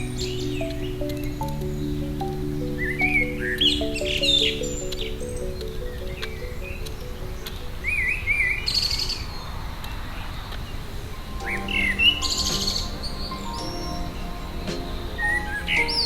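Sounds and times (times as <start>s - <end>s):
songbird singing: 0.0s - 9.5s, 11.2s - 16.0s
soft background music: 0.0s - 16.0s.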